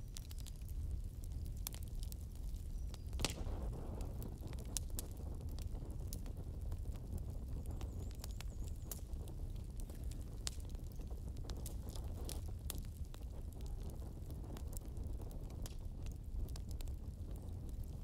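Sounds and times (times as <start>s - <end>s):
bonfire crackling and popping: 0.0s - 18.0s
low fire rumble: 0.0s - 18.0s.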